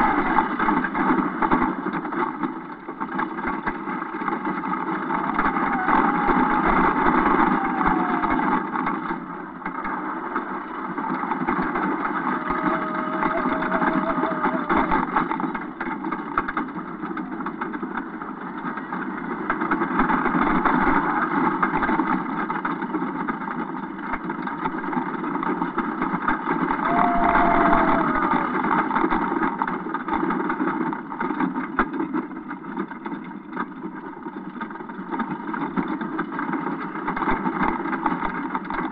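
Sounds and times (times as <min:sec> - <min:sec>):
roller coaster rattling rumble: 0:00.0 - 0:38.9
wind: 0:00.0 - 0:38.9.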